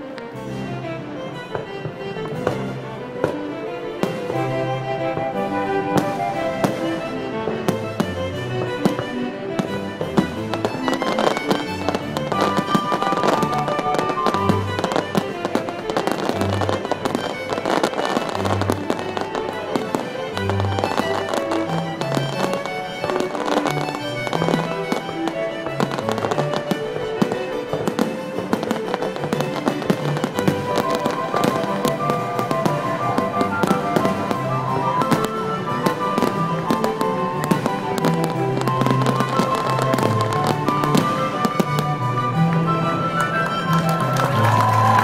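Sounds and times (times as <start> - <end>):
fireworks bursting and crackling: 0.0 - 45.0
instrumental background music: 0.0 - 45.0.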